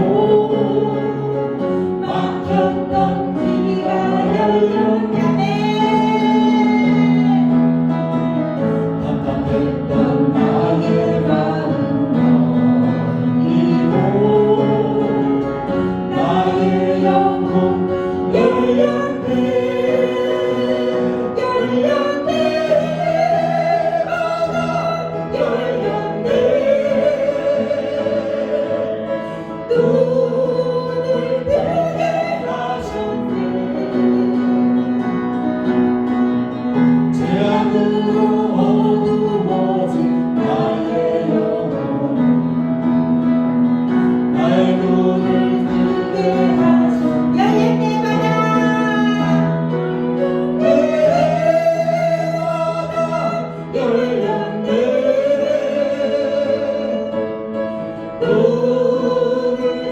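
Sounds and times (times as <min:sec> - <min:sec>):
congregation singing in unison: 0:00.0 - 0:59.9
instrumental accompaniment: 0:00.0 - 0:59.9.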